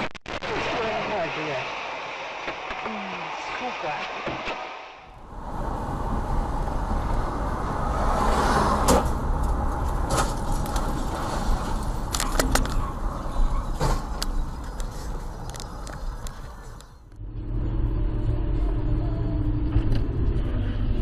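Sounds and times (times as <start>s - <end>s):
car road and engine rumble: 1.0s - 21.0s.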